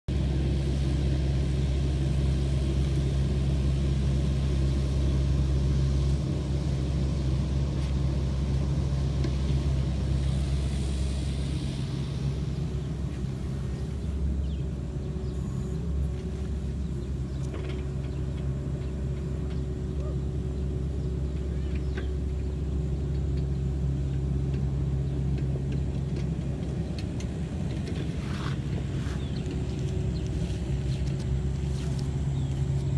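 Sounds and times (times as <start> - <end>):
excavator diesel engine droning: 0.1 - 32.9.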